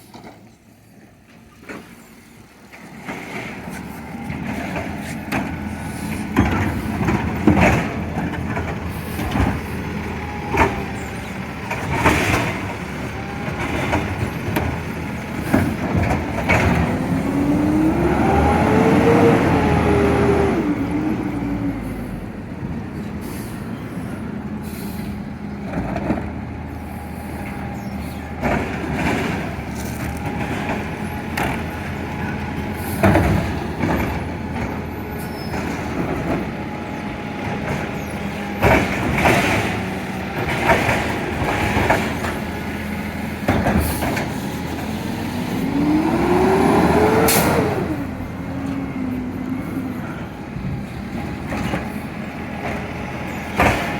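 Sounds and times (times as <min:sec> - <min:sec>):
garbage truck engine running: 0:00.0 - 0:53.9.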